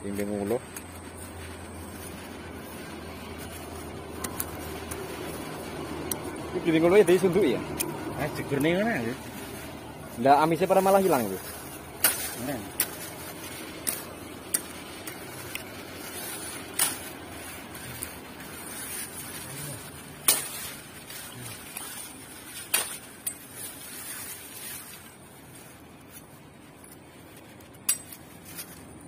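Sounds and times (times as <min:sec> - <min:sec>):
dry leaves rustling: 0:00.0 - 0:29.0
faint background noise: 0:00.0 - 0:29.0.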